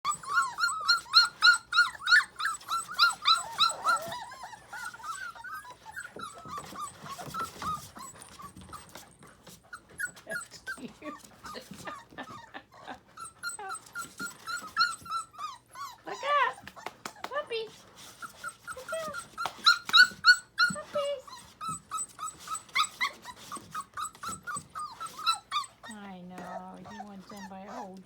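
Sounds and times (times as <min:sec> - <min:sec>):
puppies whining: 0:00.0 - 0:28.0.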